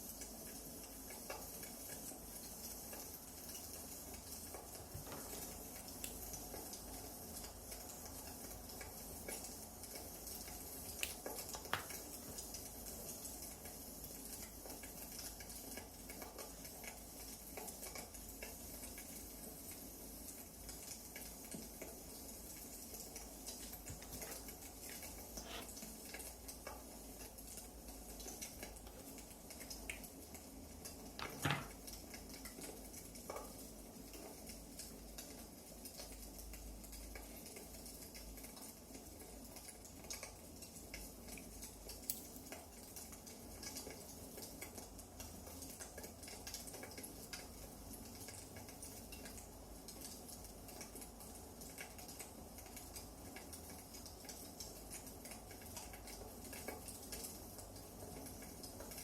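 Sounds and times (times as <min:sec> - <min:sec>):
wood fire crackling: 0:00.2 - 0:59.0.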